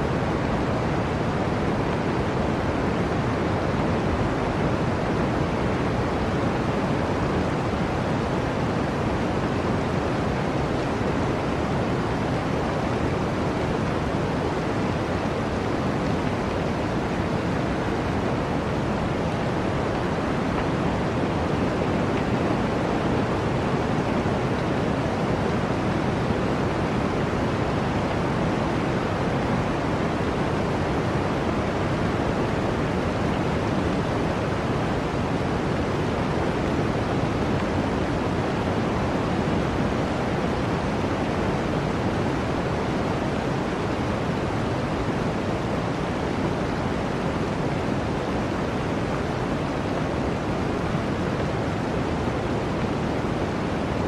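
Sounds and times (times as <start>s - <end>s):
blizzard wind rushing through forest: 0.0s - 54.0s.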